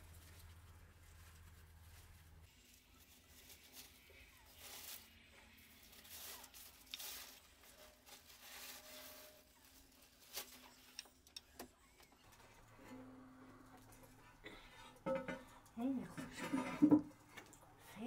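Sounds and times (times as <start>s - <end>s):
quiet rustling and handling: 0.0s - 18.0s.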